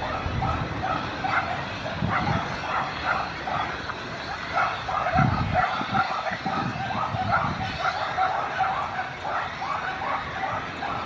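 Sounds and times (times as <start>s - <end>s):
animal yapping calls: 0.0s - 11.0s.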